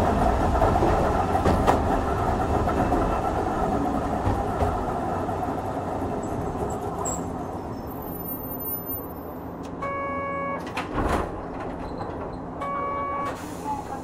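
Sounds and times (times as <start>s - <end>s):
tram running onboard: 0.0s - 14.0s.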